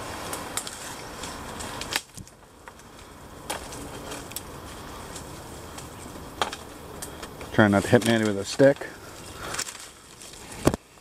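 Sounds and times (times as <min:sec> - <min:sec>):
twigs snapping: 0:00.2 - 0:11.0.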